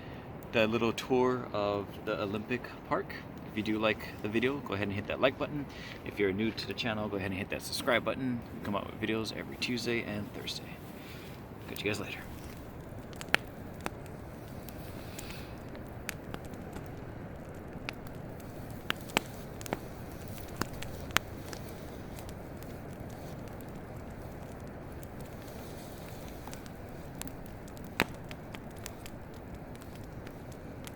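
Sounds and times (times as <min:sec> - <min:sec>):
campfire crackling pops: 0:00.0 - 0:30.9
low rushing background: 0:00.0 - 0:30.9.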